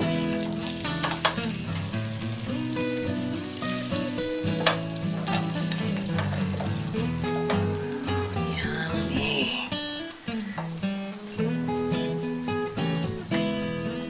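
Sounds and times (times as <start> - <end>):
acoustic guitar music: 0.0 - 14.0
food sizzling: 0.0 - 14.0.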